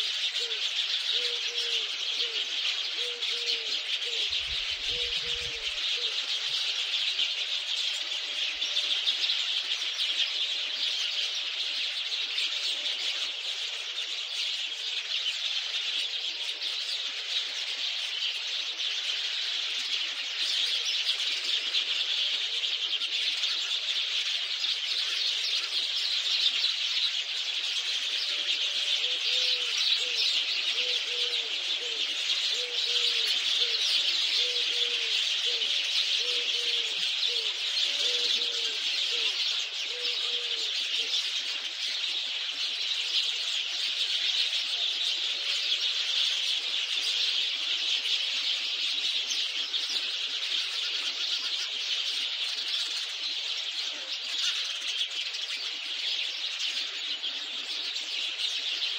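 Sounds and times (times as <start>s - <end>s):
lower repeated bird call: 0.0s - 58.9s
small birds chirping: 0.0s - 58.9s.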